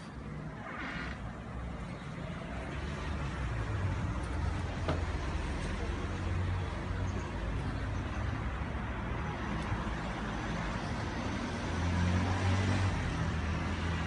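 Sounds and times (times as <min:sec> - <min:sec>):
traffic passing: 0:00.0 - 0:14.0.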